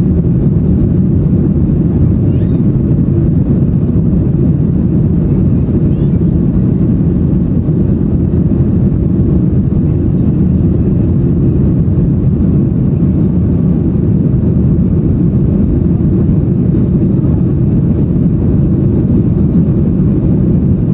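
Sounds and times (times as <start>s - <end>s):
airplane cabin roar: 0.0s - 20.9s.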